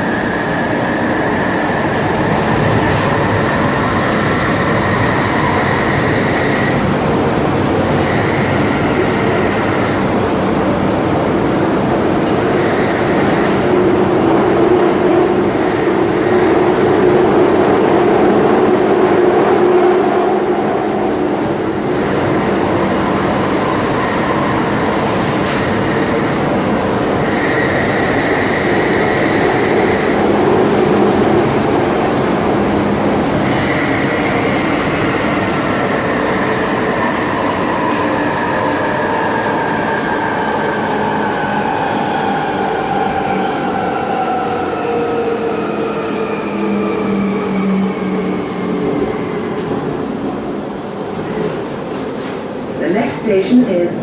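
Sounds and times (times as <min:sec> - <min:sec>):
train rumble and rail noise: 0:00.0 - 0:54.0.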